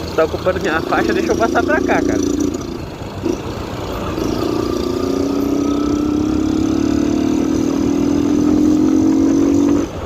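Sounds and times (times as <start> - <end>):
motorcycle engine accelerating: 0.6 - 10.0.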